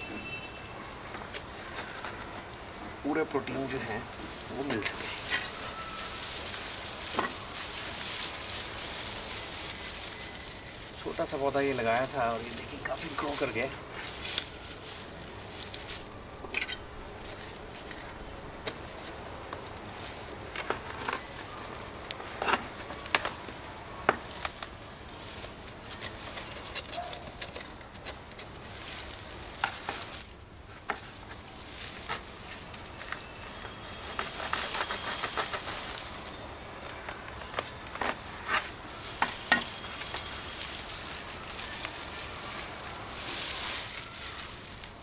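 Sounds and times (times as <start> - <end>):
dry leaves and soil rustling: 0.0 - 45.0
stems snapping: 1.0 - 45.0.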